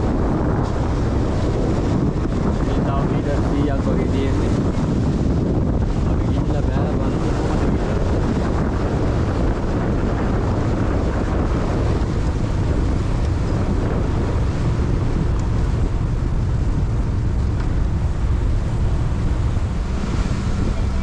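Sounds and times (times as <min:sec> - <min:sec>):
boat engine: 0:00.0 - 0:21.0
water noise: 0:00.0 - 0:21.0
wind on microphone: 0:00.0 - 0:21.0.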